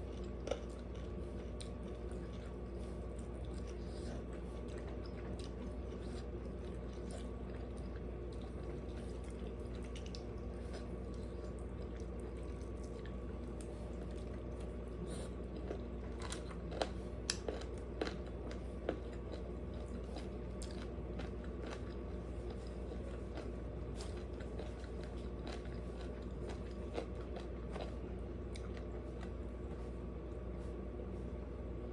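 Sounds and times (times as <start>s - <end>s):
chewing food: 0.0s - 31.4s
low steady hum: 0.0s - 31.9s.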